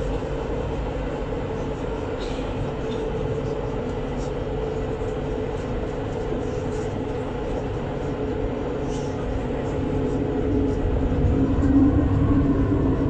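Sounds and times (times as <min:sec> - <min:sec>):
tram wheels rumbling on rail: 0:00.0 - 0:13.0.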